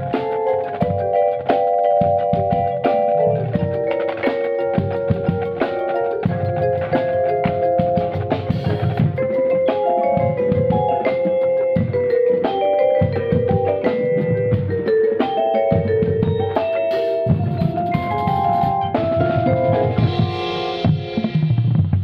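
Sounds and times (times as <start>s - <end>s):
vibraphone melody: 0.0s - 21.6s
drums and percussion: 0.0s - 22.0s.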